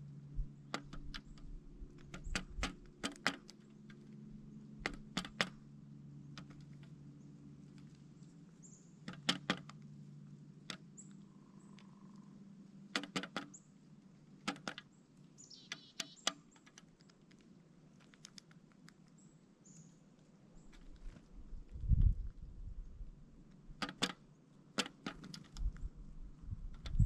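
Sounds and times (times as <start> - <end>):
woodpecker pecking: 0.6 - 21.7, 23.3 - 26.0.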